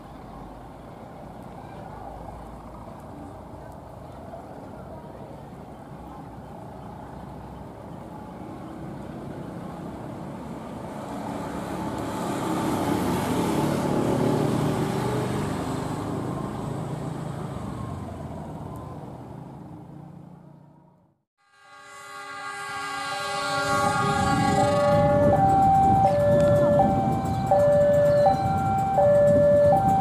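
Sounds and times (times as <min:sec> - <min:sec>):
passenger train on rails: 0:00.0 - 0:17.4, 0:21.5 - 0:30.0.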